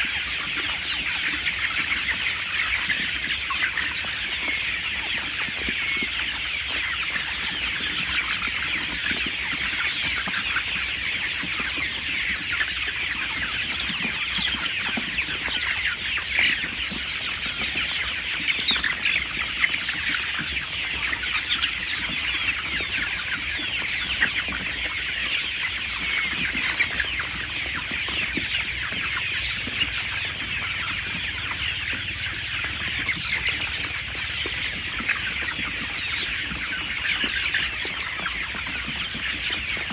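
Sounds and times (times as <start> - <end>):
chickens peeping and chirping: 0.0 - 39.9.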